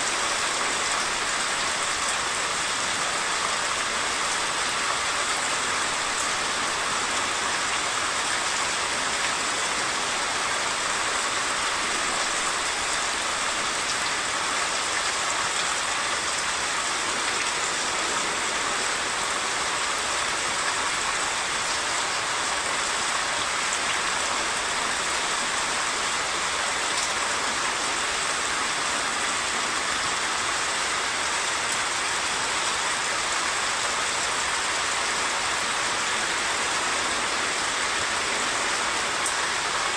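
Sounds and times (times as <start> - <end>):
fast-flowing stream rushing: 0.0 - 39.9
heavy rain falling: 0.0 - 39.9.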